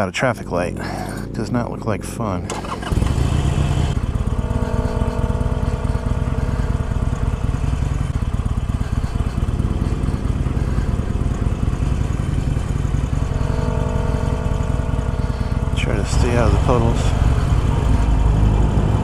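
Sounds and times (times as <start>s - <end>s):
motorcycle engine low rumble: 0.0s - 19.0s.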